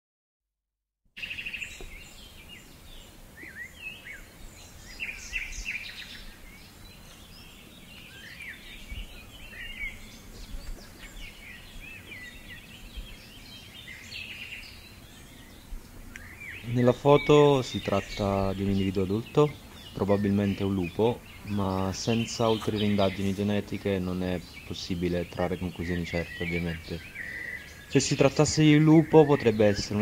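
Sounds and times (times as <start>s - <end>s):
small birds chirping: 1.2s - 30.0s.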